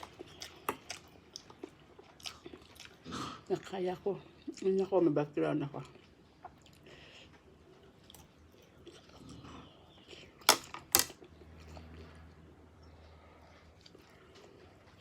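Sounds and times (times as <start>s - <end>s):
faint chewing: 0.0s - 4.9s, 5.6s - 15.0s.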